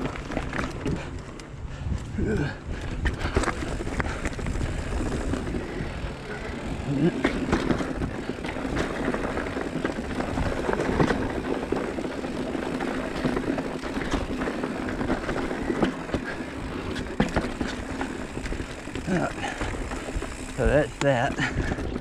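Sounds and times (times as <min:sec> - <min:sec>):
bike knocks and rattles: 0:00.0 - 0:22.0
bike rolling and drivetrain noise: 0:00.0 - 0:22.0.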